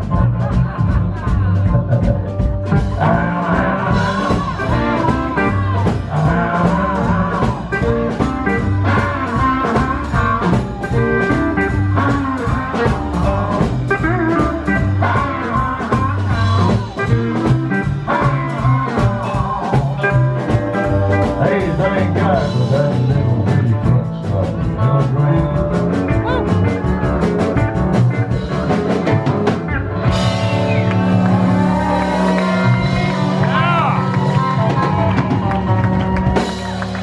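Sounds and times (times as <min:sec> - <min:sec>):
live country band playing: 0:00.0 - 0:37.0.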